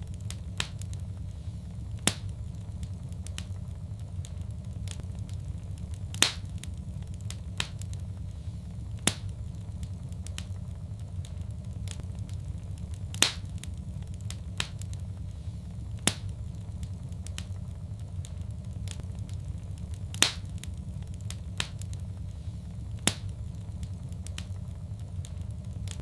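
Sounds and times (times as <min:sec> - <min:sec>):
sharp pops of fire: 0:00.0 - 0:26.0
wood fire crackling: 0:00.0 - 0:26.0.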